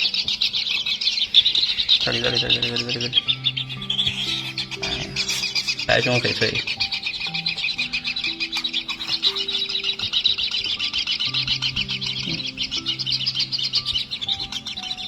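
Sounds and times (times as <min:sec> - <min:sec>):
nestlings begging chatter: 0:00.0 - 0:15.0.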